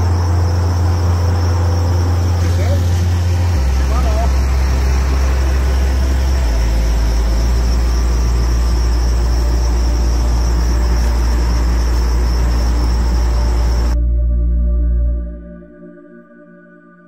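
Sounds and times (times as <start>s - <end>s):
crickets chirring: 0.0s - 14.0s
engine running: 0.0s - 14.0s.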